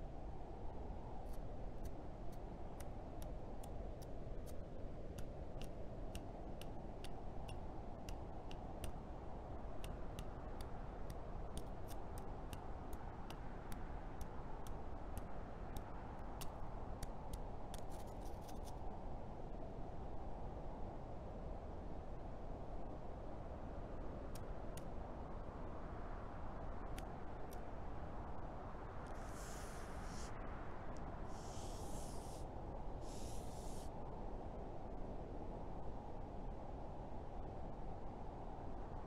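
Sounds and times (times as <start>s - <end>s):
low background noise: 0.0s - 39.0s.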